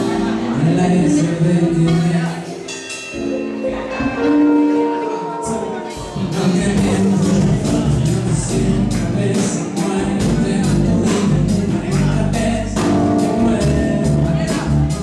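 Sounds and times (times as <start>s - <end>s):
held melodic notes: 0.0s - 15.0s
steady percussive beat: 1.1s - 15.0s.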